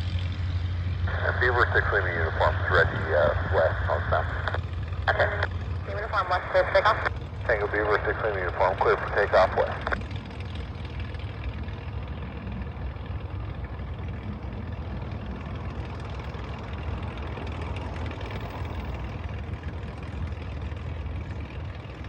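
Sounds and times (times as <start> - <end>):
floatplane engine droning: 0.0 - 22.0.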